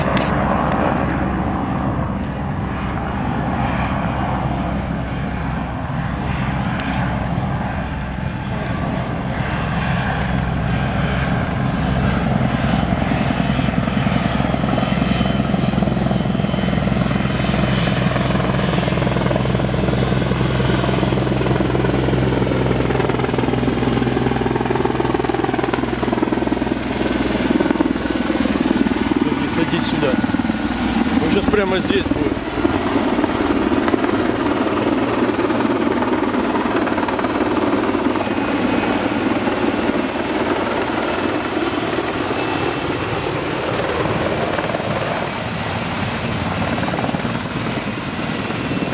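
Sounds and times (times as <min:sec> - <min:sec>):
helicopter rotor and turbine whine: 0:00.0 - 0:48.9.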